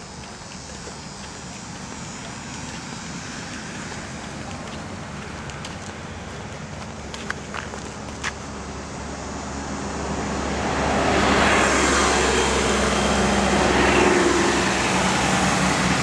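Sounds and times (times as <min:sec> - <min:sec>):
road rush: 0:00.0 - 0:16.0
vehicle engine: 0:00.0 - 0:16.0.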